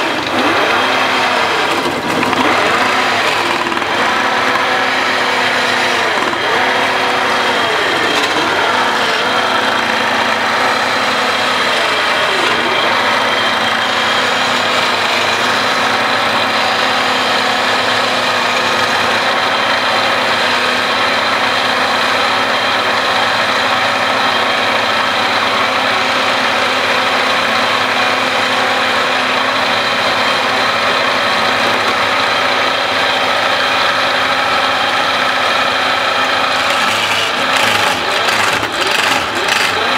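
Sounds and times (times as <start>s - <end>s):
chisel cutting spinning wood: 0.0s - 39.9s
wood lathe motor humming: 0.0s - 39.9s.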